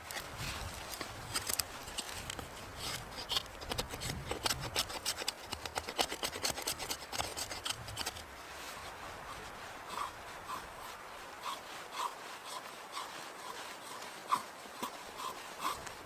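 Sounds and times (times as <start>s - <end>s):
rasping and scraping on wood: 0.0s - 16.0s.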